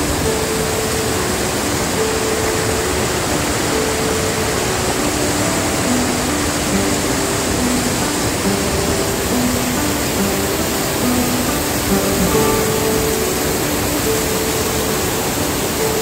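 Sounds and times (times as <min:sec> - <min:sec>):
soft slow melody: 0:00.0 - 0:16.0
waterfall roaring onto rocks: 0:00.0 - 0:16.0.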